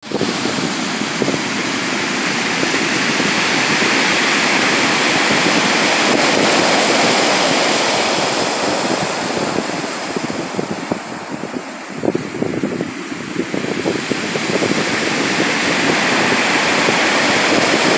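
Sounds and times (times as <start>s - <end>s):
sea waves breaking: 0.0s - 17.9s.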